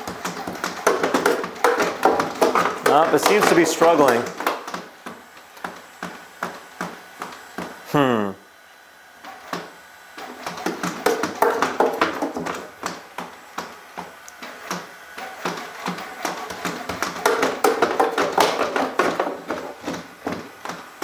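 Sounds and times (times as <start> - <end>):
robot feet tapping on wooden stairs: 0.0 - 7.8, 9.4 - 21.0.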